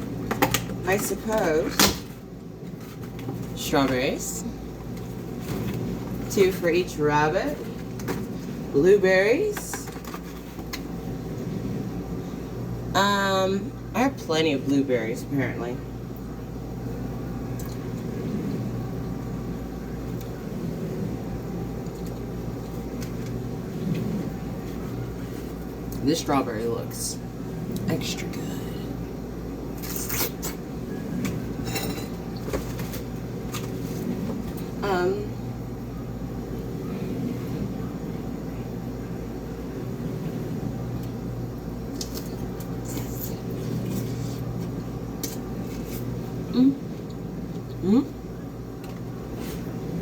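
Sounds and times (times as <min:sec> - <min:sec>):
dishwasher running: 0:00.0 - 0:50.0
household appliance humming: 0:00.0 - 0:50.0.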